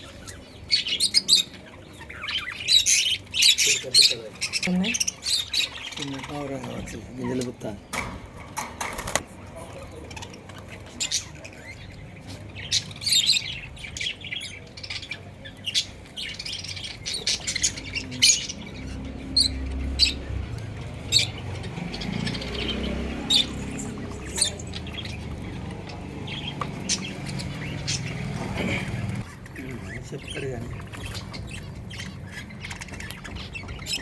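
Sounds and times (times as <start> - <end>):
small birds chirping and squawking: 0.0 - 34.0.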